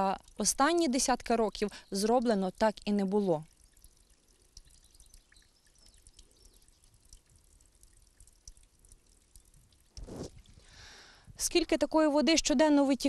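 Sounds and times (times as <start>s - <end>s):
faint water drips: 0.0s - 13.0s.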